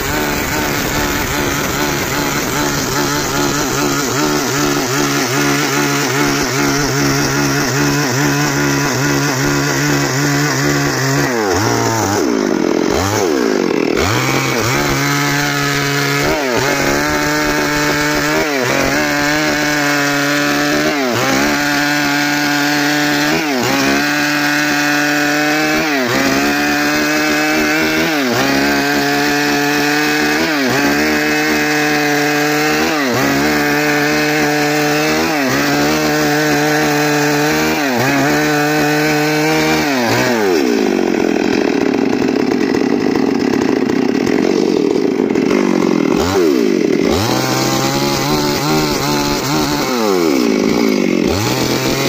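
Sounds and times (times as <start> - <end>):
chainsaw cutting log: 0.0 - 52.0
chainsaw idling: 0.0 - 52.0.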